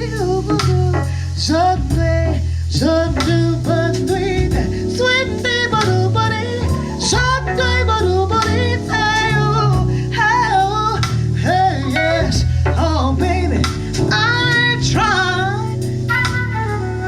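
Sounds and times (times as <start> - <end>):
backing band: 0.0 - 17.0
bass notes: 0.0 - 17.0.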